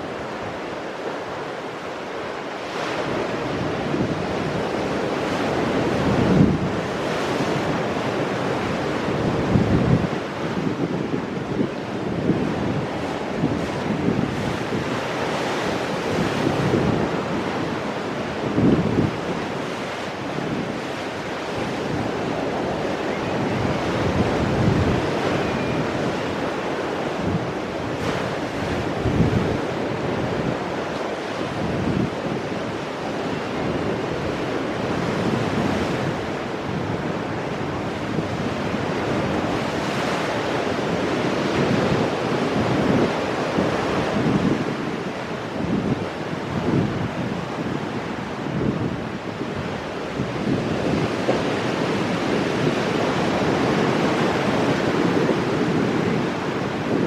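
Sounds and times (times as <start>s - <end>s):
wind buffeting microphone: 2.6s - 57.0s.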